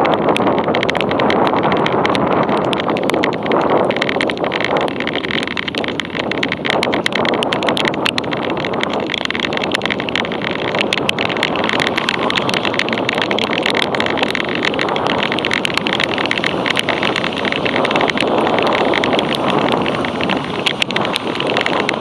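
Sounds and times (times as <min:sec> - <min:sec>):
small clicks and rattles: 0:00.0 - 0:22.0
tyre and wind noise: 0:00.0 - 0:22.0.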